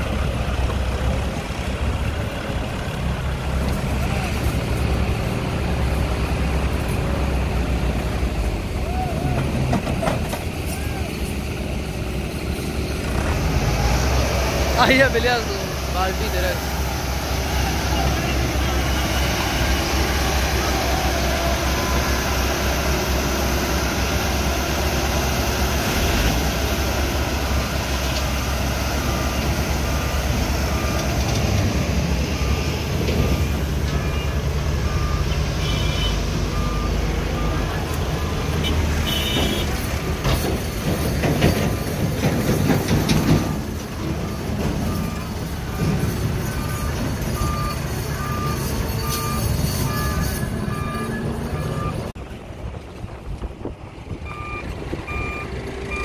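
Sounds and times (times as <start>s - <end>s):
diesel engines droning: 0.0s - 56.0s.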